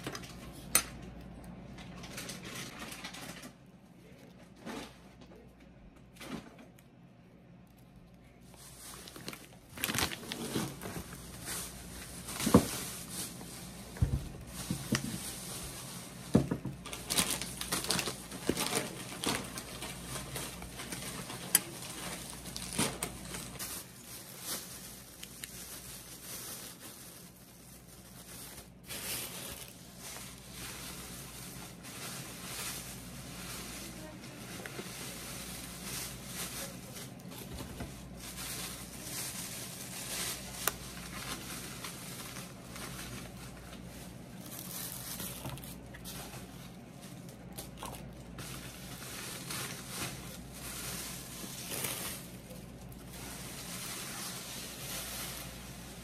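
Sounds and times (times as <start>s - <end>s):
leaf wrappers crinkling and tearing: 0.0s - 5.5s, 7.6s - 56.0s.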